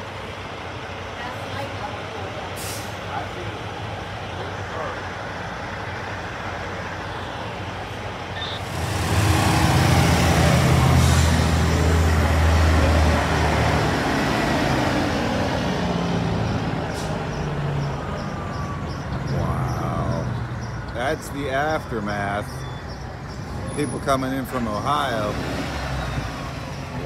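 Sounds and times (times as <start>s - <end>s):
diesel trucks passing: 0.0s - 27.0s.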